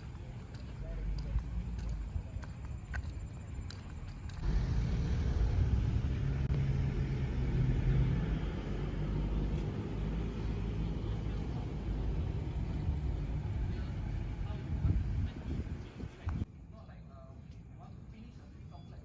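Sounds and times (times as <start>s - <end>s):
car driving on road: 0.0s - 16.5s.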